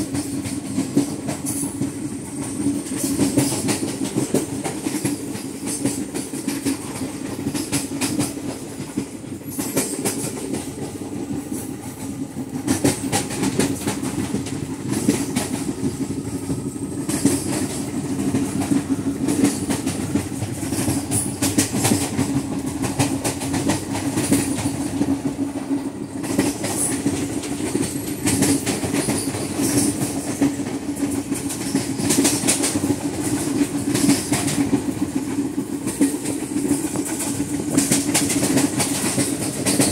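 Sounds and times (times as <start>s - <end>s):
train running rumble: 0.0s - 39.9s
wheels clicking over rails: 0.1s - 39.9s.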